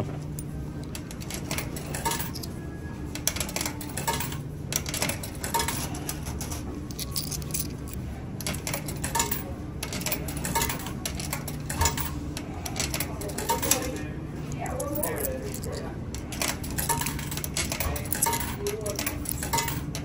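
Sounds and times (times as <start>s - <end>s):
coins clinking into coin slot: 0.4s - 20.0s.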